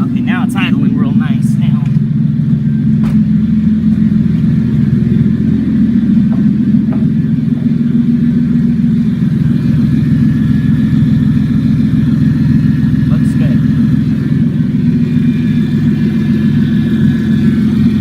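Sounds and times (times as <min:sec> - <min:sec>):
loud car engine idling: 0:00.0 - 0:18.0.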